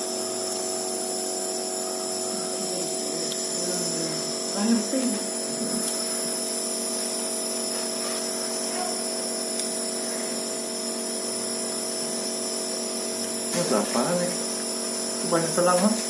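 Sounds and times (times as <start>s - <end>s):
electric compressor humming: 0.0s - 16.0s.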